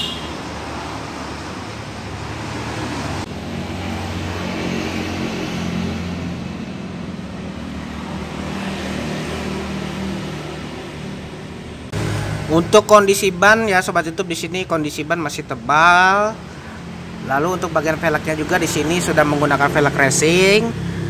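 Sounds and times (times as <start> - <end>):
road traffic noise: 0.0 - 21.0
vehicle engine drone: 0.0 - 21.0.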